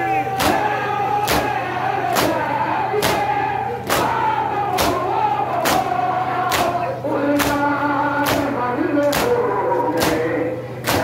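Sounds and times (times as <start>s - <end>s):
male voices chanting lament: 0.0s - 11.0s.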